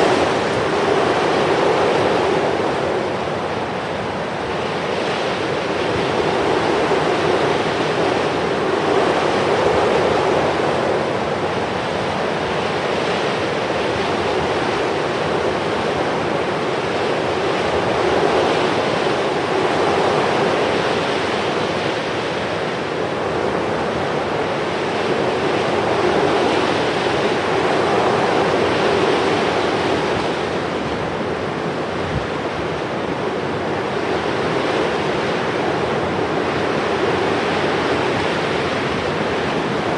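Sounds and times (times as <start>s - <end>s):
surf washing: 0.0s - 39.9s.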